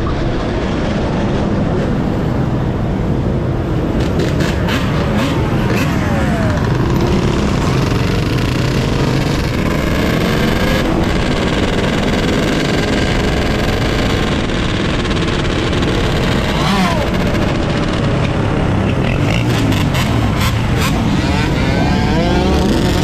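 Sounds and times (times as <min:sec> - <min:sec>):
electric dirt bike riding: 0:00.4 - 0:23.0.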